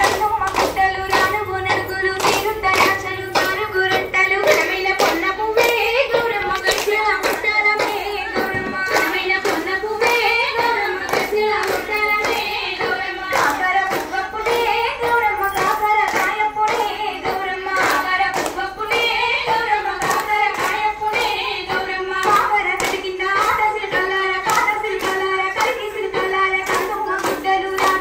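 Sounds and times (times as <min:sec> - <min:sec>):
rhythmic clapping: 0:00.0 - 0:28.0
women singing folk song: 0:00.0 - 0:28.0.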